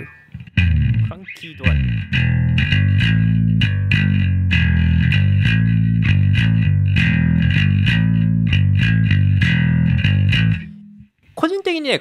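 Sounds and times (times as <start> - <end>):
crunchy electric bass line: 0.3 - 11.1.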